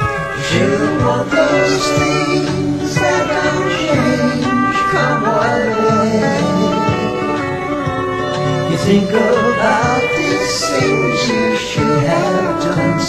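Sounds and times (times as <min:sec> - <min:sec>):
country-rock band with guitar: 0:00.0 - 0:13.0.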